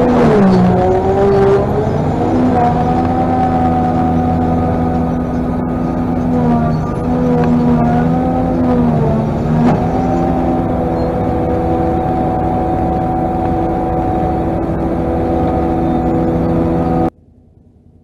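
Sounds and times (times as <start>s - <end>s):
forage harvester droning: 0.0s - 17.9s.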